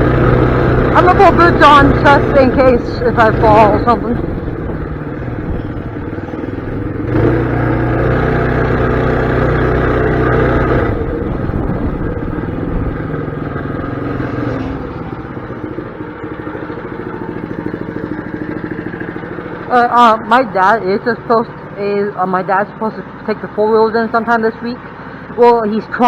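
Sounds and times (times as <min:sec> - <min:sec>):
small bike engine revving and idling: 0:00.0 - 0:26.0.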